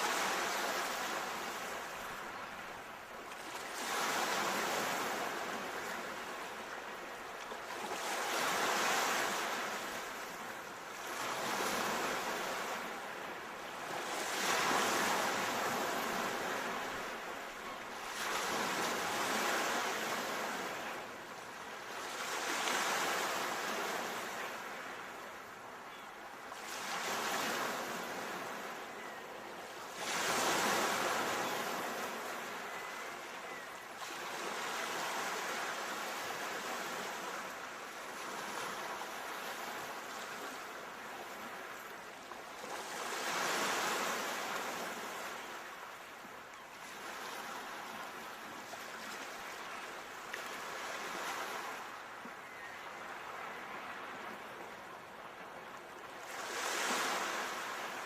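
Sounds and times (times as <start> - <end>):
ocean waves washing on shore: 0.0 - 58.0.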